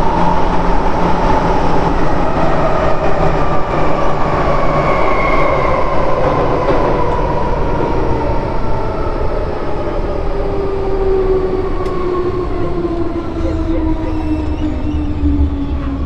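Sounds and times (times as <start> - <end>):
train wheel and running noise: 0.0 - 16.0.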